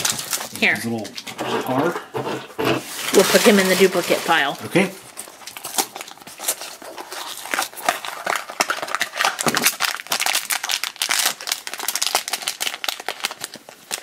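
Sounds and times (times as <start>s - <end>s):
plastic packaging crinkling and tearing: 0.0s - 14.0s.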